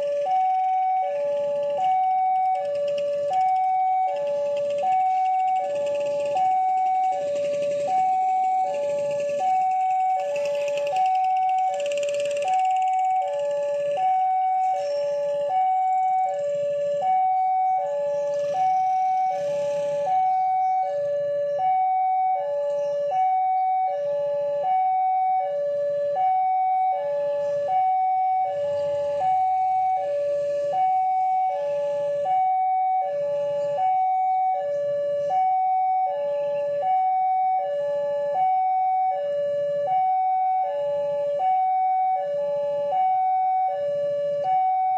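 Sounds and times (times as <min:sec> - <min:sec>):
two-tone hi-lo warning siren: 0:00.0 - 0:44.9.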